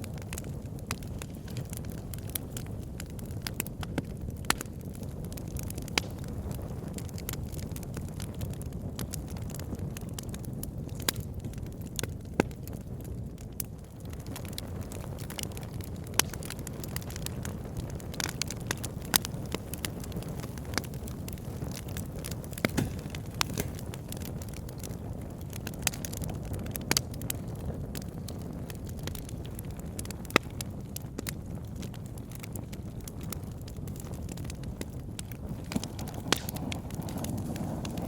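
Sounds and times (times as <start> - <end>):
logs crackling and popping: 0.0 - 38.0
low rumble of flames: 0.0 - 38.0.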